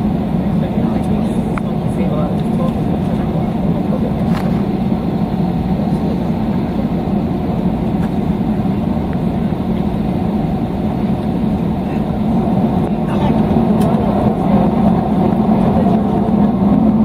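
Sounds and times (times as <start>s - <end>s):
jet engines idling hum: 0.0s - 17.0s.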